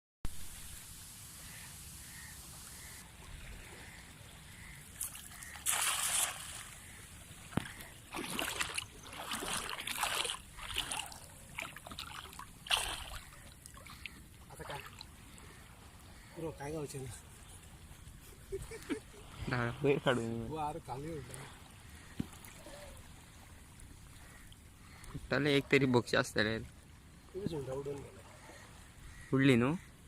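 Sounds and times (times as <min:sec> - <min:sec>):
water splashing and sloshing: 0:01.4 - 0:30.0.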